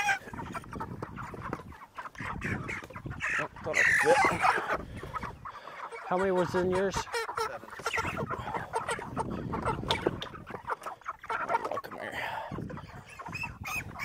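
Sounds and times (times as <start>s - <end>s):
chickens clucking and squawking: 0.0s - 14.0s.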